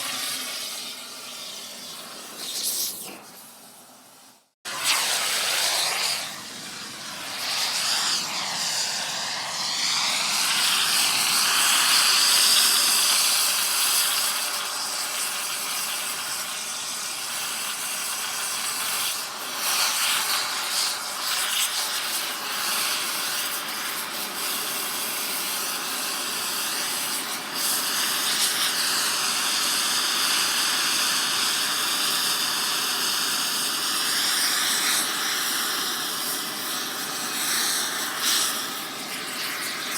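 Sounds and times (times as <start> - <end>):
torch flame hissing on metal: 0.0 - 39.9.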